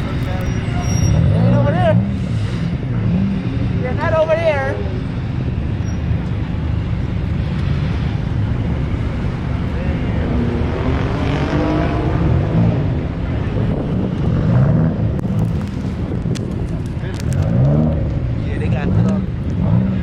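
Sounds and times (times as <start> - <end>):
steady low rumble: 0.0 - 10.9, 12.0 - 20.0
car engines running: 0.0 - 20.0.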